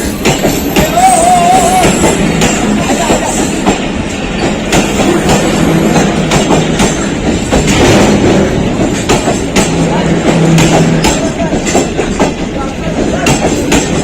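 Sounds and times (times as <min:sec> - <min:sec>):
train rumbling past: 0:00.0 - 0:14.0
wheel clacks over rail joints: 0:00.0 - 0:14.0.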